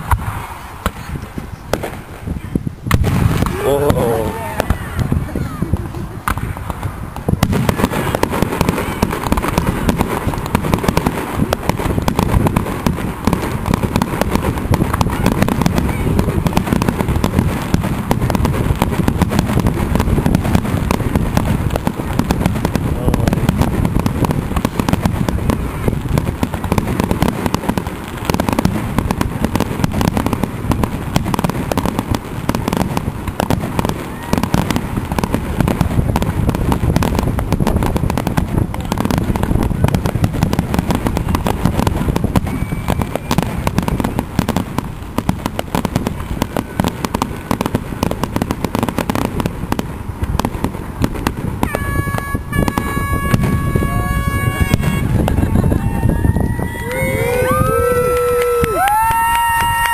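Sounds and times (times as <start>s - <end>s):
fireworks crackling: 0.0s - 59.9s
fireworks shells bursting: 0.0s - 59.9s.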